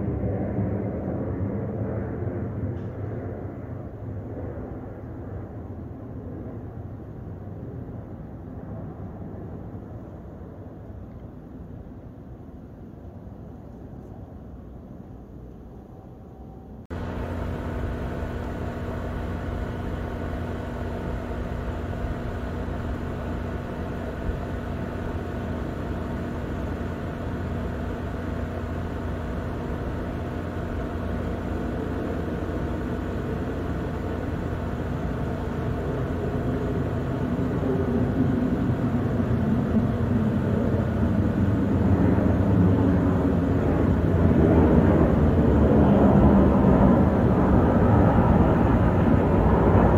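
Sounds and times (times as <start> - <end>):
jet airliner engine rumble: 0.0 - 49.9.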